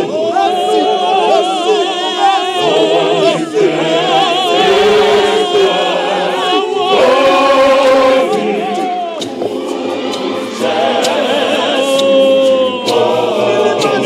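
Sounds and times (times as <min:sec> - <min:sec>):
choir singing a gospel hymn: 0:00.0 - 0:14.0.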